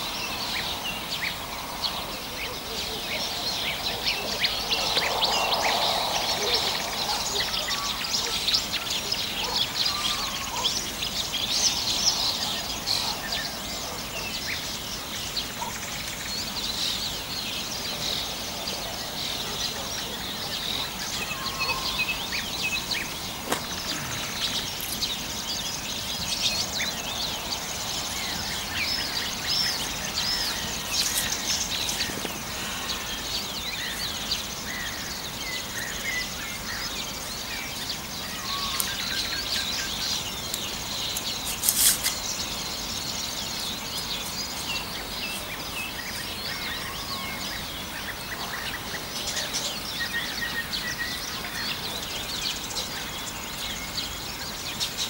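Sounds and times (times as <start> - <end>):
songbirds chirping and whistling: 0.0 - 55.0.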